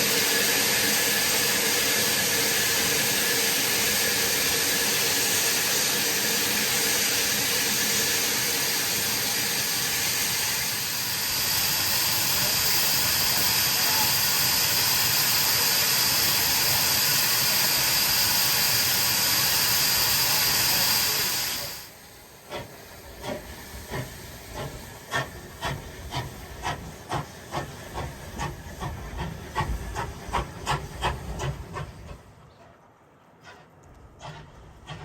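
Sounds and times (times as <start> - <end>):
steam locomotive hissing steam: 0.0 - 32.4, 33.4 - 35.0.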